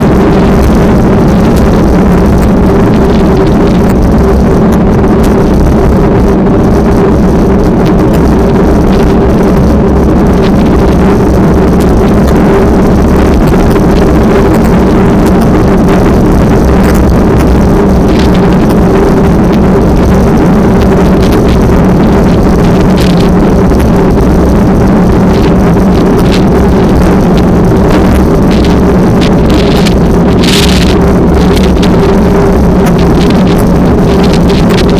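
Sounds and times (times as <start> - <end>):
engine running steadily: 0.0 - 34.9
wind buffeting microphone: 0.0 - 34.9.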